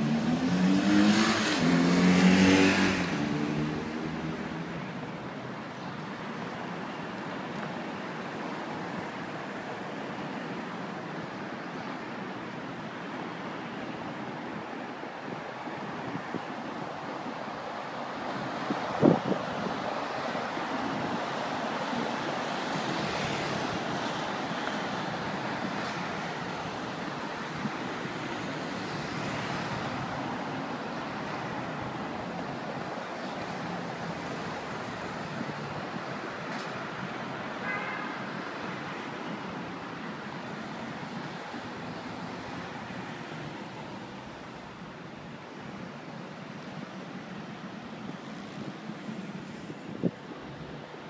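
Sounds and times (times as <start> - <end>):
passing vehicles: 0.0 - 51.0.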